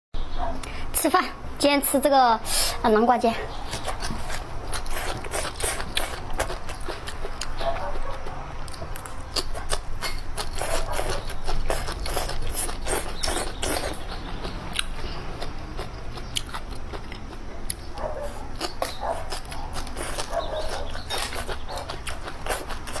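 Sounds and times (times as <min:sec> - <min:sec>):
person chewing crunchy food: 0:03.5 - 0:23.0.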